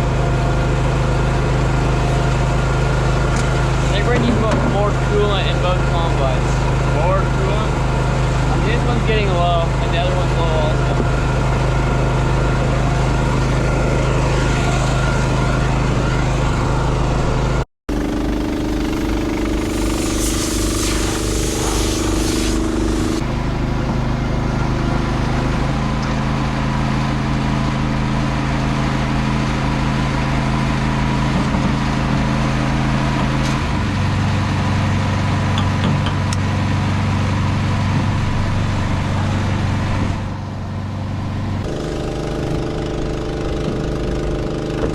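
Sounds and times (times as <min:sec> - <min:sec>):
heavy diesel engines running: 0:00.0 - 0:44.9.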